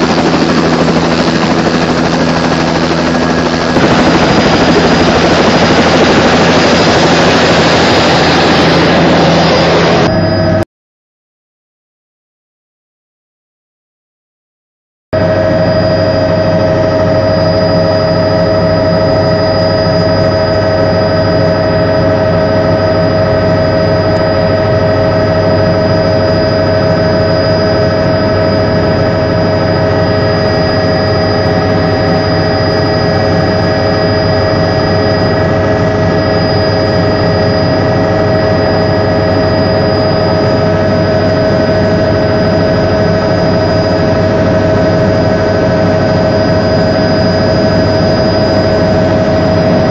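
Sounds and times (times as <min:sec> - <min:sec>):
helicopter engine and rotor drone: 0:00.0 - 0:10.6, 0:15.2 - 0:49.9.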